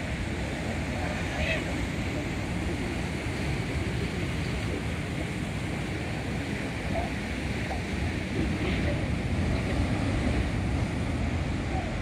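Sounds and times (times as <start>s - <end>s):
ocean surf breaking: 0.0s - 12.0s
wind rumbling on microphone: 0.0s - 12.0s.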